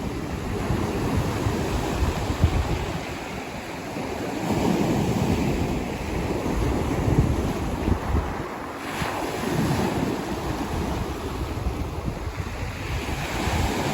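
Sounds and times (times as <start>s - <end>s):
sea waves surging and breaking: 0.0s - 13.9s
wind buffeting microphone: 0.0s - 13.9s.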